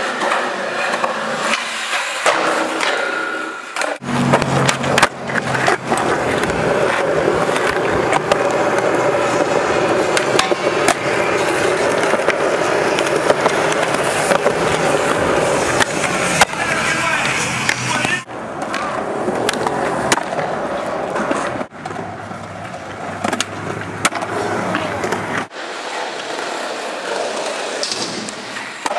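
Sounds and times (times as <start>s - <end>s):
skateboard clacks and slaps: 0.0s - 28.9s
skateboard wheels rolling on concrete: 0.0s - 28.9s.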